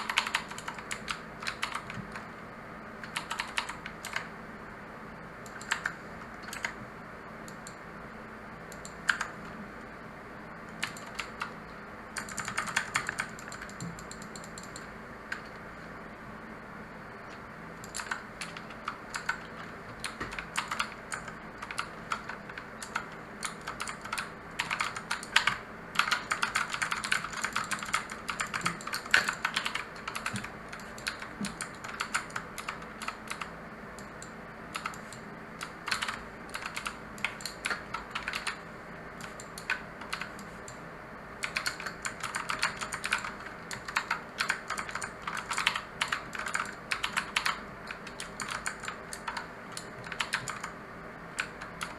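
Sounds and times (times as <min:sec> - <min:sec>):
mechanical keyboard typing: 0:00.0 - 0:02.2, 0:03.0 - 0:04.3, 0:05.4 - 0:06.8, 0:08.7 - 0:09.4, 0:10.7 - 0:11.6, 0:12.2 - 0:15.6, 0:17.8 - 0:40.8, 0:41.4 - 0:50.7, 0:51.3 - 0:51.9.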